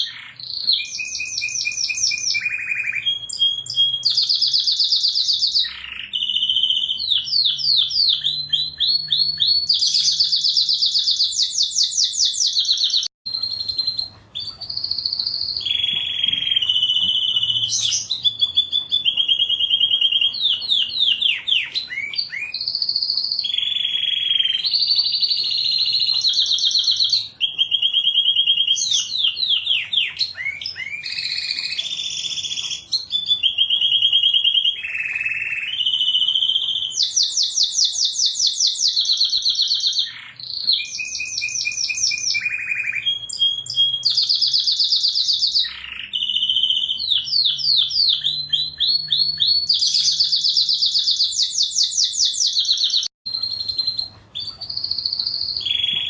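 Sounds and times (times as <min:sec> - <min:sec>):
canary singing rapid trills: 0:00.0 - 0:56.0.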